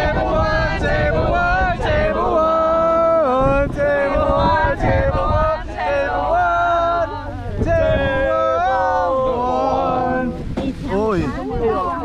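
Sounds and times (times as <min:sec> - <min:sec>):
truck rumbling: 0:00.0 - 0:12.0
wind on microphone: 0:00.0 - 0:12.0.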